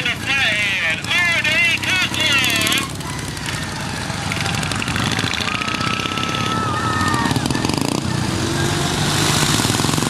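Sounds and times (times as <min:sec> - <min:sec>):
lawnmower engines racing: 0:00.0 - 0:10.0.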